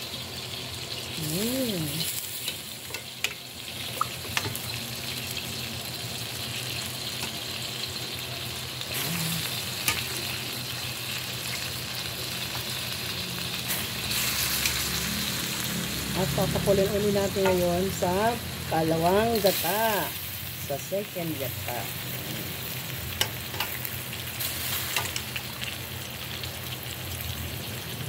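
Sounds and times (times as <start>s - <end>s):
chicken sizzling in a wok: 0.0s - 28.0s.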